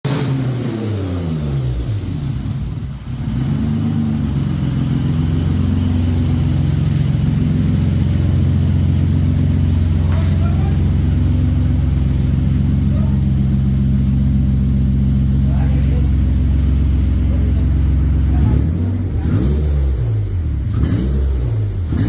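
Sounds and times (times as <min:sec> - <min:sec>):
car engine starting and idling: 0:00.1 - 0:22.0.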